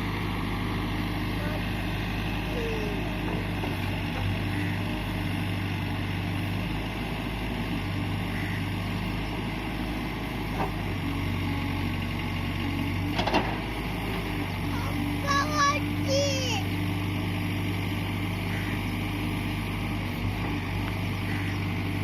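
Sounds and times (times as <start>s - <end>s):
backhoe loader engine running: 0.0s - 22.0s.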